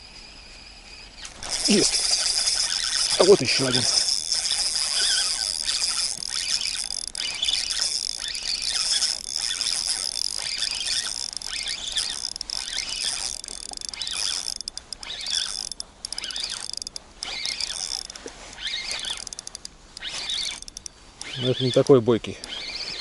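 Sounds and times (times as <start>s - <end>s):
high chirring: 0.6s - 23.0s
fishing reel ratcheting click: 1.4s - 22.9s.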